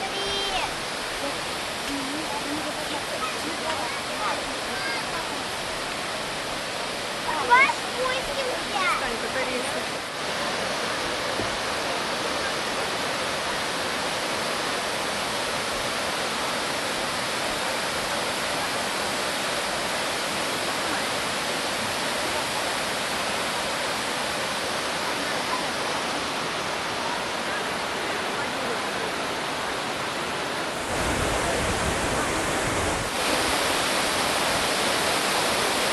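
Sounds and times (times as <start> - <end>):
waterfall roaring: 0.0 - 35.9.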